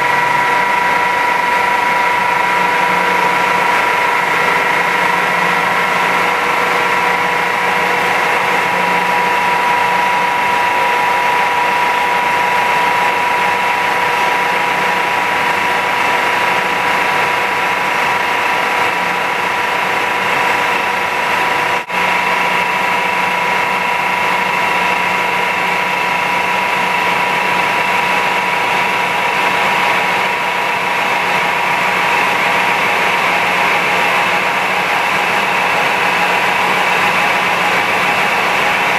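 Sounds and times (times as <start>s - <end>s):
milling machine hum with whining tones: 0.0s - 38.9s.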